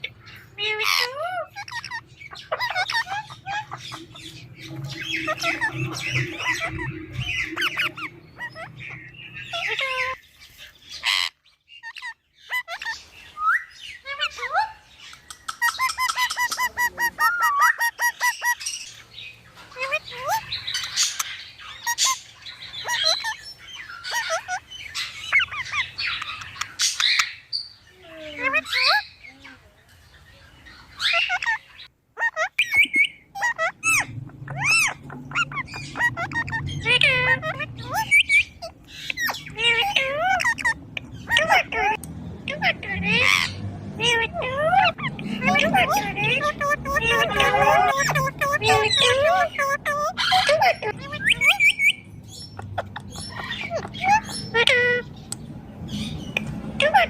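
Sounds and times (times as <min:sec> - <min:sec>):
parrot trilling: 0:00.0 - 0:29.6, 0:30.6 - 0:57.0
parrot squawking and chirping: 0:00.0 - 0:57.0.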